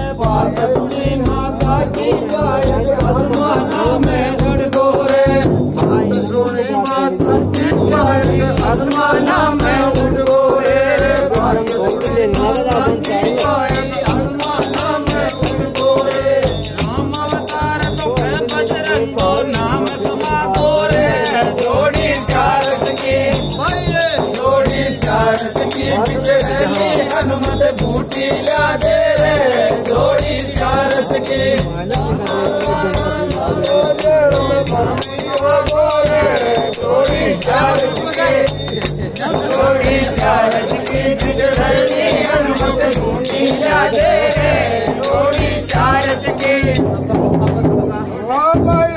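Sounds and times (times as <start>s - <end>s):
frame drum: 0.0s - 48.9s
jingling hand cymbals: 0.0s - 48.9s
men singing in a group: 0.0s - 48.9s.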